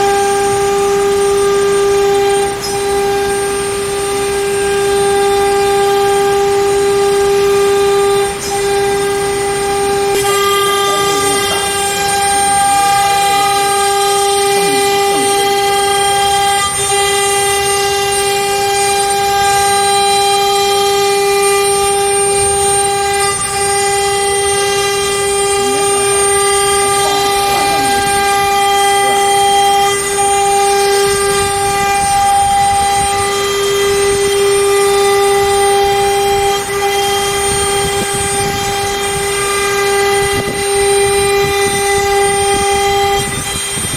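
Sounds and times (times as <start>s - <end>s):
router spindle whining: 0.0s - 43.9s.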